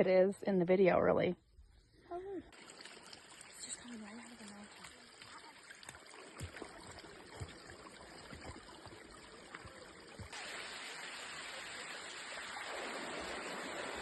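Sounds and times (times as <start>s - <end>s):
stream water rushing and splashing: 2.5s - 14.0s.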